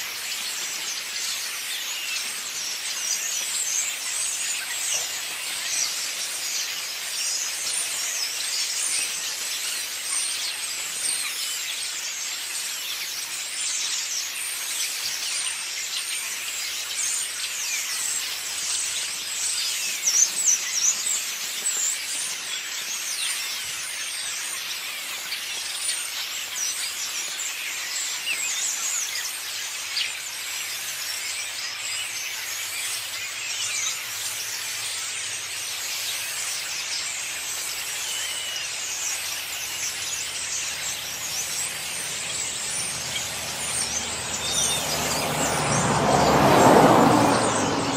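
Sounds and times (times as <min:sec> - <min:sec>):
flock of birds chattering: 0:00.0 - 0:47.9.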